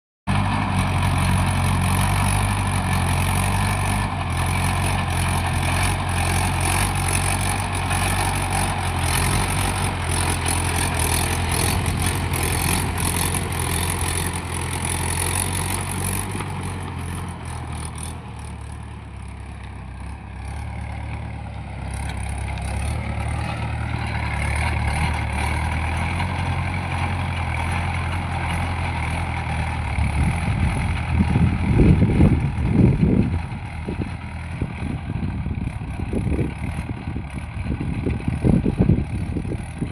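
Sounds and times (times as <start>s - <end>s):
motor engine humming: 0.3s - 39.9s.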